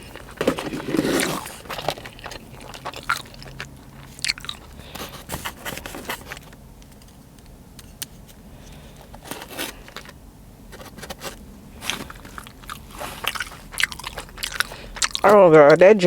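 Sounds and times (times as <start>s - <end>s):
crisp crunches: 0.0s - 6.6s, 8.6s - 15.8s
person chewing food: 0.0s - 7.3s, 7.9s - 15.8s.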